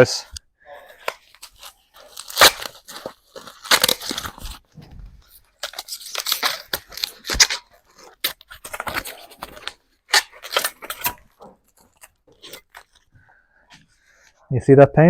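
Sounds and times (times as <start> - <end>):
packaging tearing and crinkling: 0.9 - 13.1.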